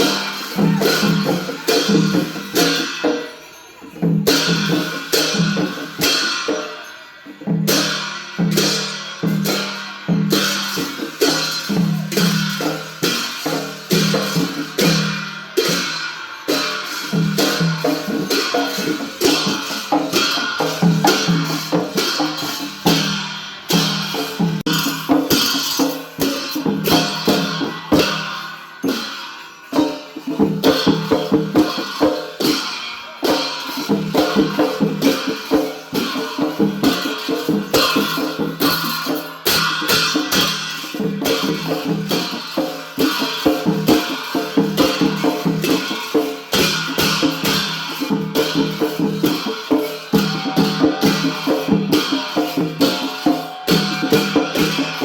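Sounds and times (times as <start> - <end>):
clashing cymbals: 0.0 - 55.0
drums: 0.0 - 55.0.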